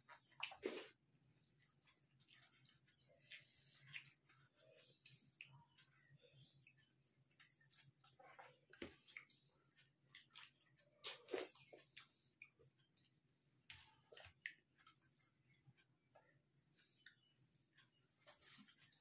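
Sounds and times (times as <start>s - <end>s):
chewing: 0.0s - 15.9s
fingers mixing food on plates: 0.0s - 19.0s.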